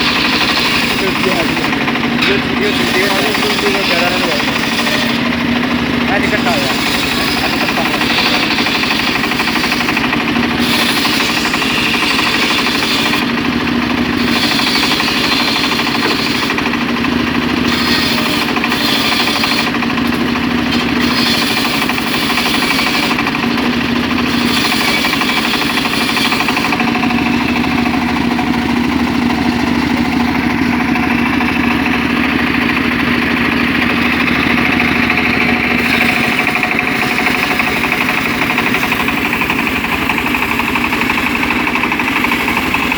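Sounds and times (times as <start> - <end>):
saw blade cutting wood: 0.0 - 42.9
saw engine running: 0.0 - 42.9.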